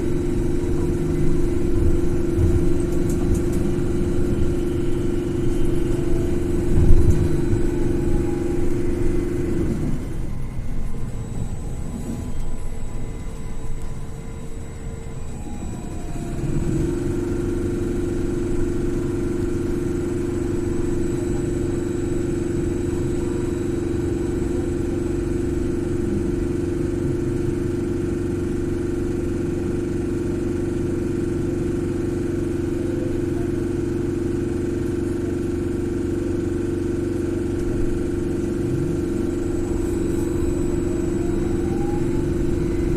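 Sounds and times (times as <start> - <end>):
loud steady hum: 0.0 - 42.9
trolleybus ride rumble: 0.0 - 42.9.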